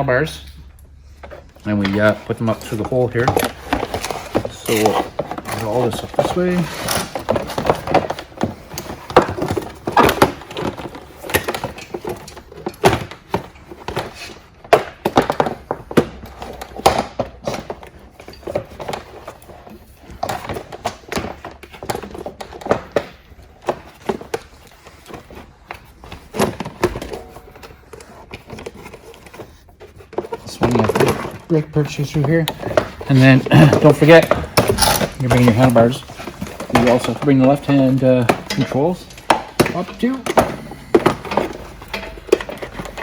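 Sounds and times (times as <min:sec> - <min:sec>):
plastic panels knocking and rattling: 0:01.2 - 0:43.0.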